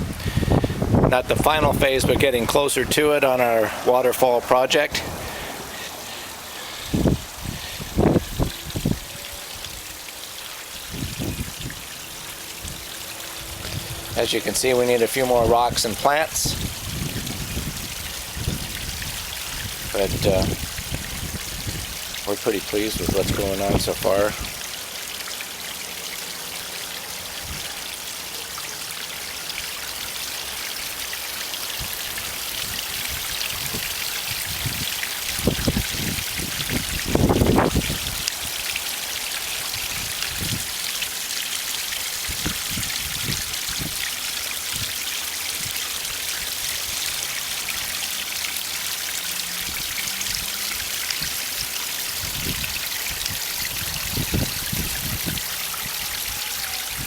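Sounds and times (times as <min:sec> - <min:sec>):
water spilling over rocks: 0:00.0 - 0:57.0.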